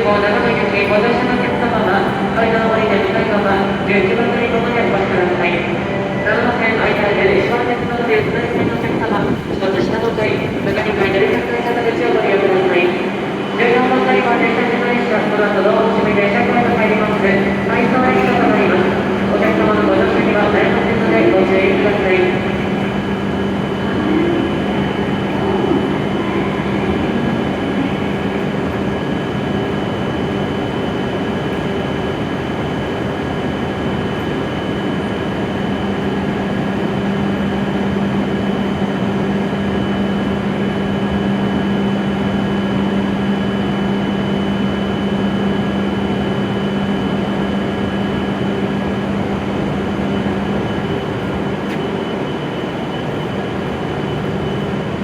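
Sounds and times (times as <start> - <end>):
train equipment and fans humming: 0.0 - 55.0.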